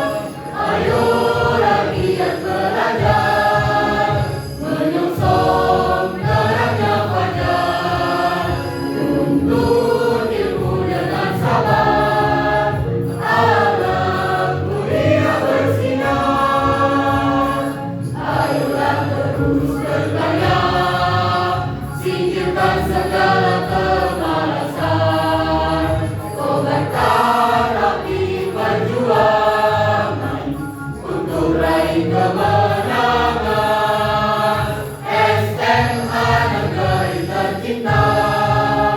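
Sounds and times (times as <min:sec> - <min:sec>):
choir singing a march: 0:00.0 - 0:38.9
musical accompaniment: 0:00.0 - 0:38.9.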